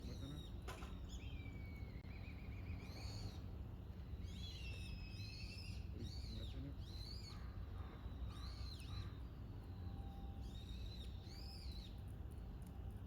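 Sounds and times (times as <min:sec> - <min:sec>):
wild birds whistling and trilling: 0:00.0 - 0:12.2.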